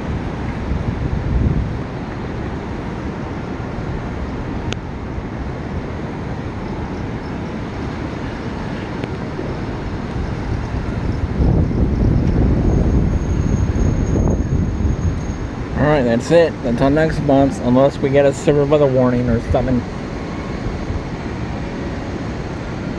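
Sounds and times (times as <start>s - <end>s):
city traffic rumble: 0.0s - 22.9s
wind noise on microphone: 0.0s - 22.9s.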